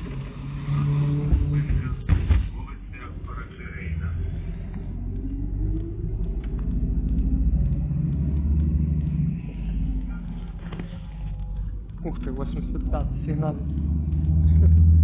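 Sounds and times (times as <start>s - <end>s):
bus whine rising in pitch: 0.0s - 2.1s, 2.7s - 15.0s
bus engine rumbling: 0.0s - 15.0s.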